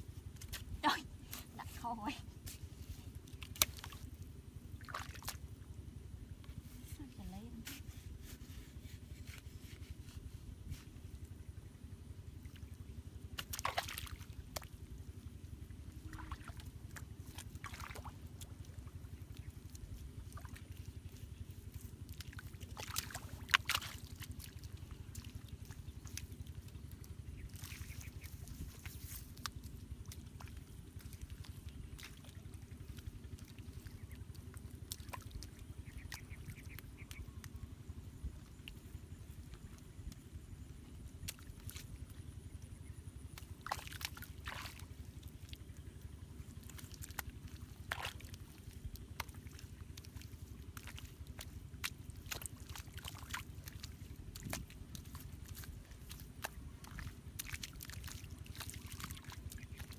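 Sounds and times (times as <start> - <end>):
mud squelching by hand: 0.2 - 5.7, 12.3 - 59.9.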